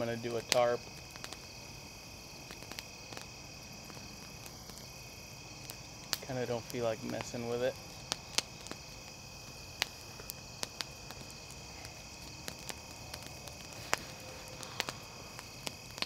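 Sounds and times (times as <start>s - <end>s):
campfire crackling and popping: 0.0s - 16.0s
insects chirping: 0.0s - 16.0s.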